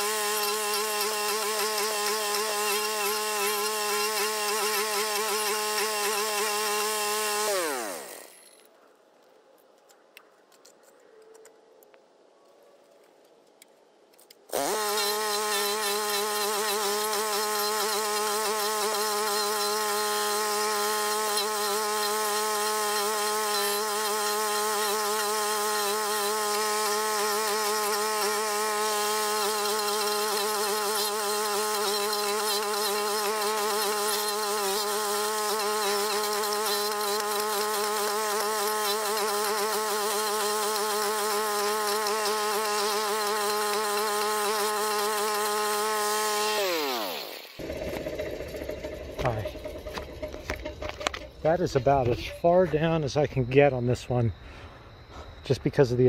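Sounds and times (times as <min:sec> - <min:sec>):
small gas engine buzzing: 0:00.0 - 0:08.7, 0:14.5 - 0:53.2.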